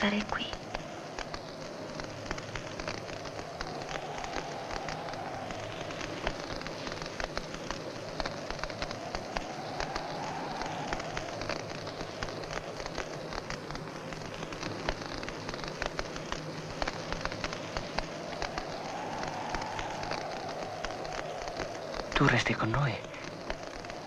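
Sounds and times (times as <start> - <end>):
dense steady crackling: 0.0 - 24.0
hiss: 0.0 - 24.0.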